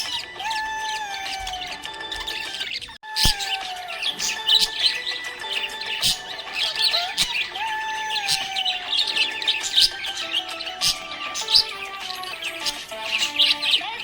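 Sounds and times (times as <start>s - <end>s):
background music with held notes: 0.0s - 14.0s
budgies chirping and chattering: 0.0s - 14.0s.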